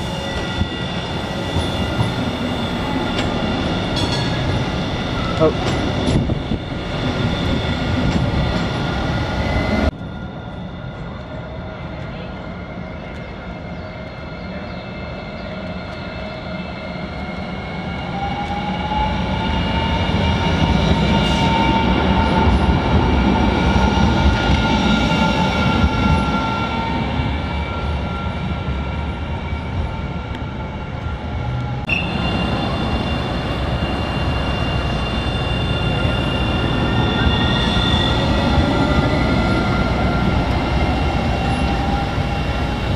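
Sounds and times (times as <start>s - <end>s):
tram running on rails: 0.0s - 42.9s.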